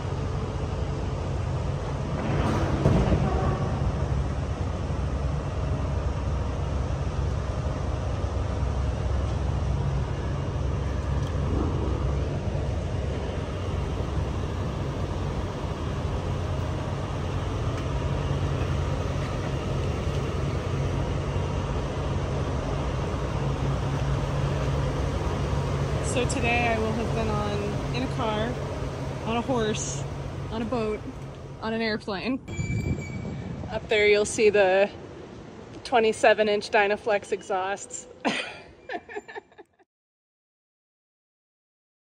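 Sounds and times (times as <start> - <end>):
diesel engines rumbling: 0.0 - 39.6.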